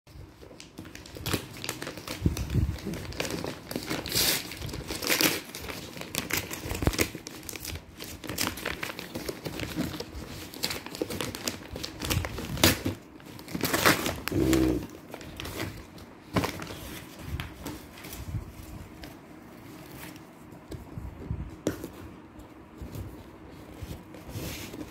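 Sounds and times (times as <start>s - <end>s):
paper crinkling and rustling: 0.1s - 24.9s.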